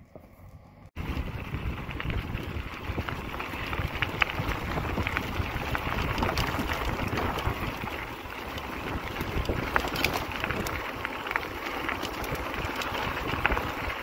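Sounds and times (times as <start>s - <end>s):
bicycle tyres crunching gravel: 0.9s - 14.0s
wind on microphone: 1.0s - 11.0s, 11.9s - 14.0s
small stones ticking: 1.5s - 14.0s.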